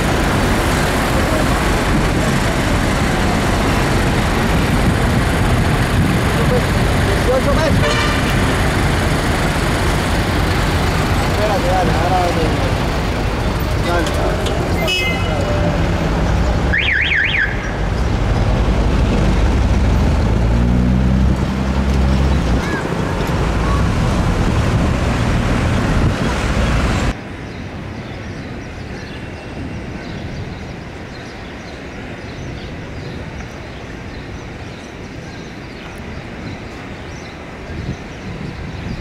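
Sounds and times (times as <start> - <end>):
street traffic: 0.0 - 39.0.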